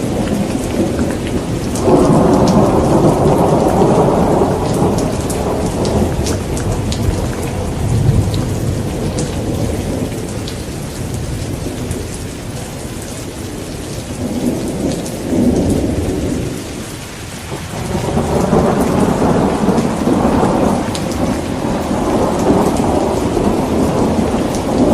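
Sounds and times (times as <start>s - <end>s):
thunder rumbling: 0.0s - 12.7s, 13.4s - 24.9s
steady rain: 0.0s - 24.9s.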